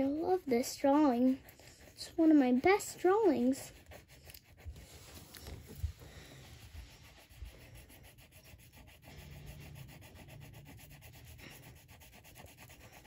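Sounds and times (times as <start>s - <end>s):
crayon scratching on paper: 0.0s - 13.0s.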